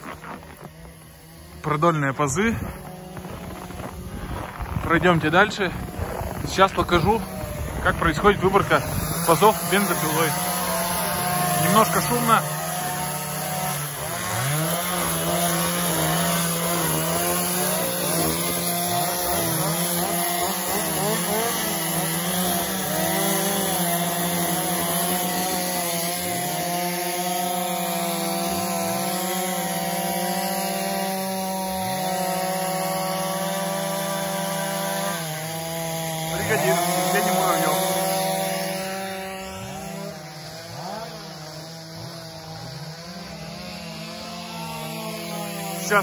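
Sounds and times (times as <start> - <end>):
chainsaws revving in wood: 0.0 - 46.0.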